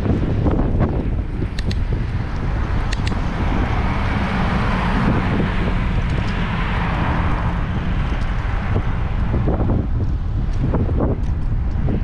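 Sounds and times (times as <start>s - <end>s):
road traffic rushing: 0.0s - 12.0s
wind buffeting microphone: 0.0s - 12.0s.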